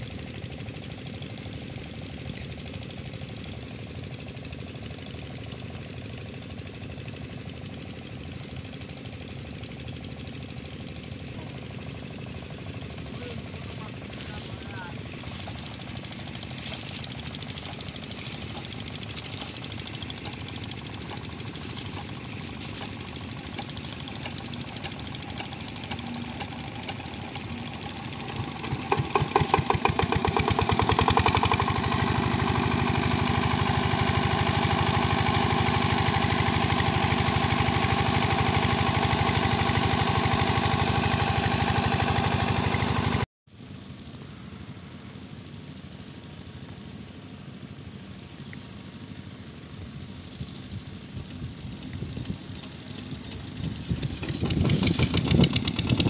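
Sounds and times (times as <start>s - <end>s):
small engine chugging: 0.0s - 56.0s.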